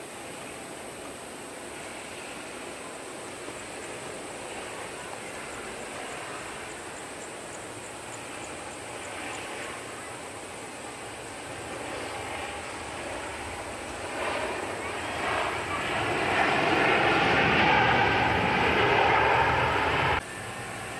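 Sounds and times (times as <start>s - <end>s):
jet engines rushing hum: 0.0s - 20.9s.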